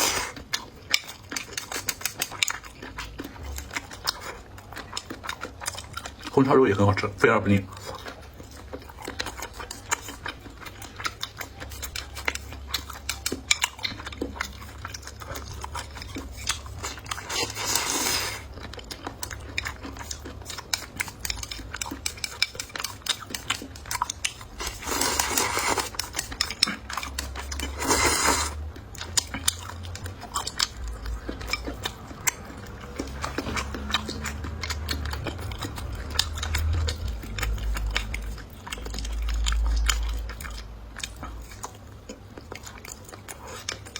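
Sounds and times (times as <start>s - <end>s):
chewing and biting: 0.0s - 43.9s.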